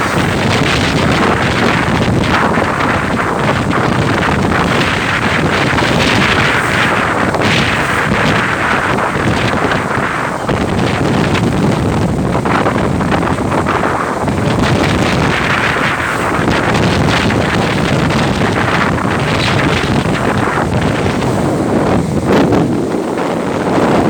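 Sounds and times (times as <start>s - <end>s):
shirt flapping in wind: 0.0s - 24.0s
wind buffeting microphone: 0.0s - 24.0s.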